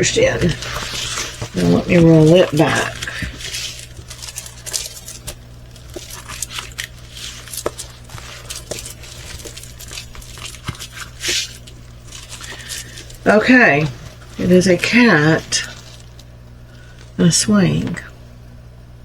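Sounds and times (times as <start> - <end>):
canvas rustling and crinkling: 0.0 - 18.0.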